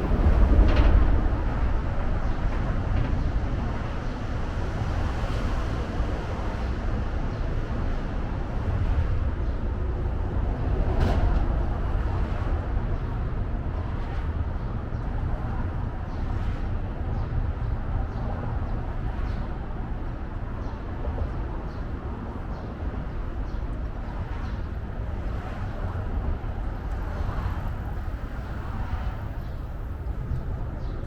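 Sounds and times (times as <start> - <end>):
distant traffic rumble: 0.0 - 31.0.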